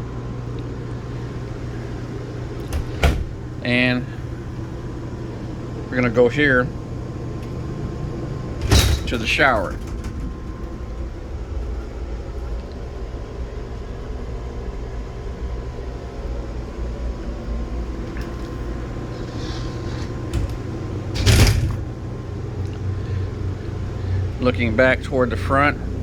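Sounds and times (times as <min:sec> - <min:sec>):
faint steady hum: 0:00.0 - 0:26.0
low mechanical rumble: 0:00.0 - 0:26.0.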